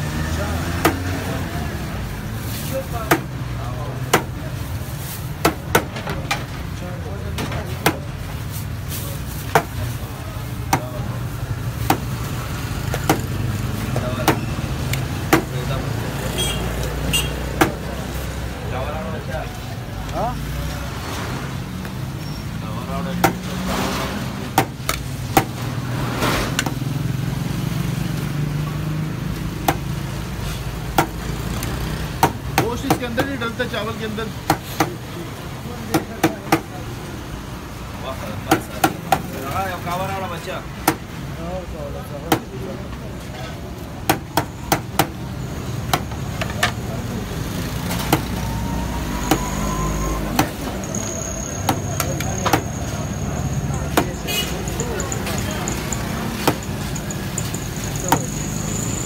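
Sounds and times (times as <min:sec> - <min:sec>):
low street hum: 0:00.0 - 0:59.0.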